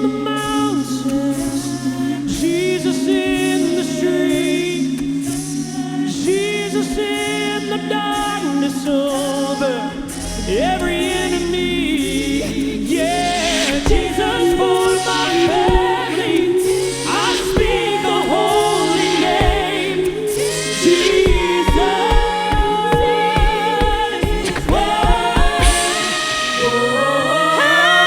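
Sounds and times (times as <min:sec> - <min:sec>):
vocal group singing in harmony: 0:00.0 - 0:28.0.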